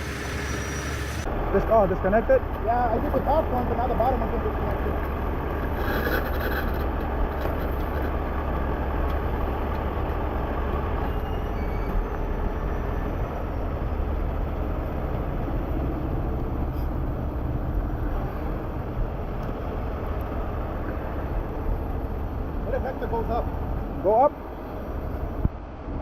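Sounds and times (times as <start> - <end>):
diesel truck engine rumbling: 0.0 - 25.5.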